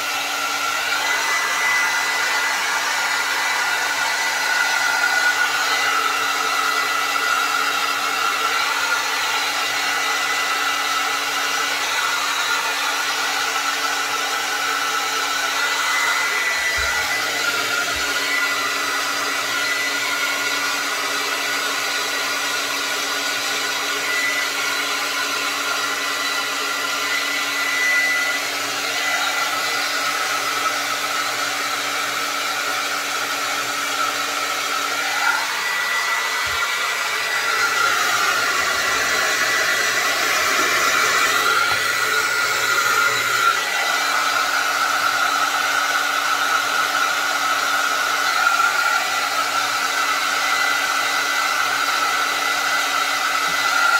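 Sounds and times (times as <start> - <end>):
hair dryer running: 0.0 - 53.9.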